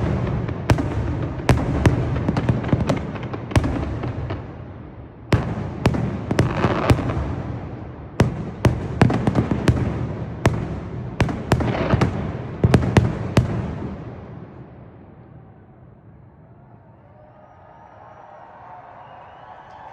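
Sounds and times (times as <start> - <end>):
fireworks bangs: 0.0 - 16.7.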